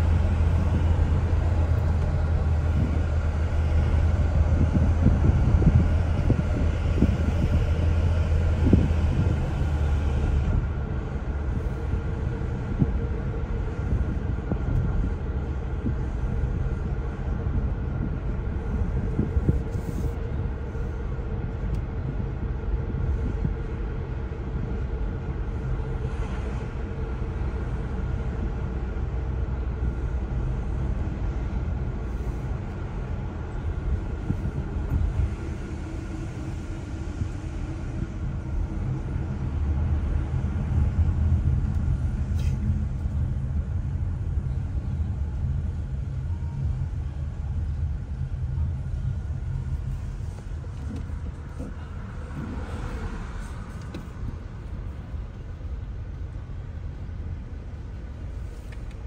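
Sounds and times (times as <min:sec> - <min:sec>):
car driving rumble inside cabin: 0:00.0 - 0:59.0.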